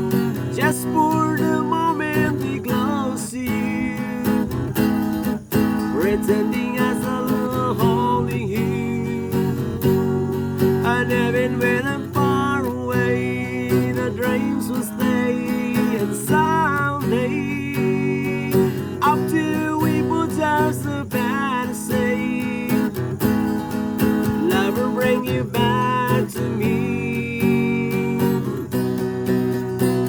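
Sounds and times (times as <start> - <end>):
strummed acoustic guitar: 0.0 - 30.0.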